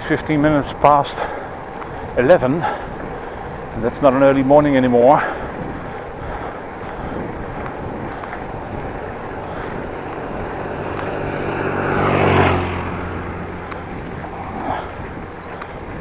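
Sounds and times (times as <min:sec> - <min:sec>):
steady ride rush: 0:00.0 - 0:16.0
vehicle passing by: 0:00.0 - 0:16.0.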